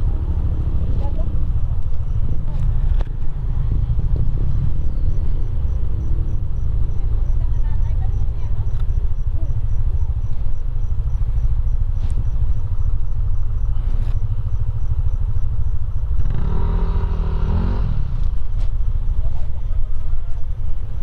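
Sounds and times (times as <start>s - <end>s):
motor scooters idling: 0.0s - 21.0s.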